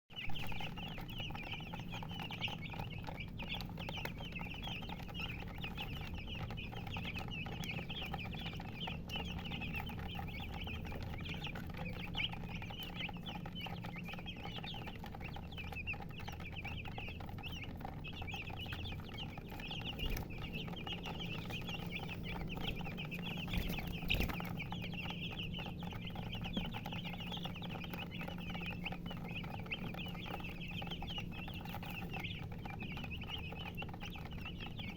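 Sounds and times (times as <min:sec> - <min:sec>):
baby chicks chirping: 0:00.1 - 0:34.9
steady low hum: 0:00.2 - 0:34.9.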